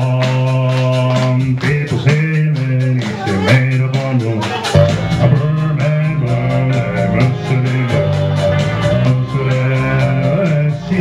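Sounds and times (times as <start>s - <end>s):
backing music with guitar and beat: 0.0s - 11.0s
man singing into microphone: 0.0s - 11.0s.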